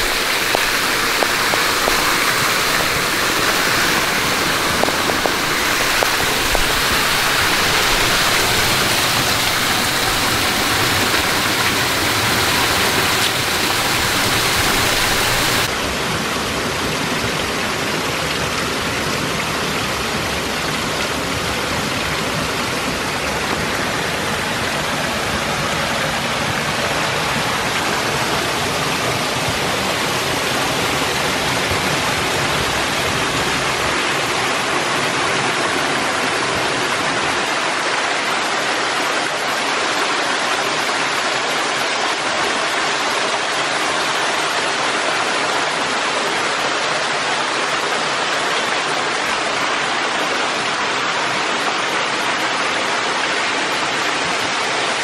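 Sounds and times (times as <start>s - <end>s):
water splashing from waterfalls: 0.0s - 55.0s.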